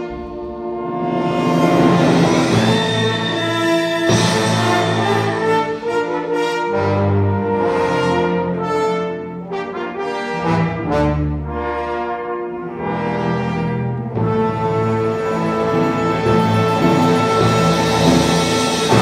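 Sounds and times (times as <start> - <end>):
symphony orchestra with brass: 0.0 - 19.0.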